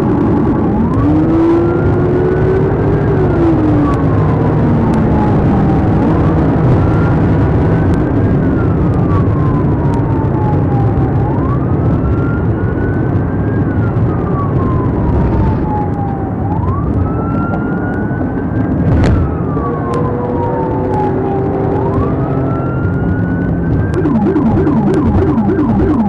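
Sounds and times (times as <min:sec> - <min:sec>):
engine and road noise: 0:00.0 - 0:26.0
police siren wailing: 0:00.4 - 0:18.5, 0:19.4 - 0:26.0.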